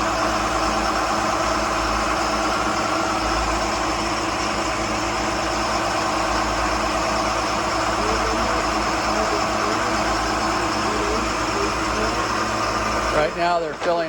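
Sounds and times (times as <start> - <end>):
boat diesel engines droning: 0.0 - 14.0.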